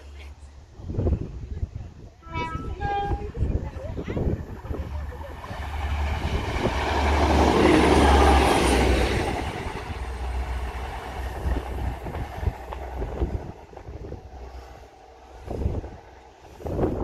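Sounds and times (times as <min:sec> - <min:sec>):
diesel train passing: 0:02.1 - 0:17.0.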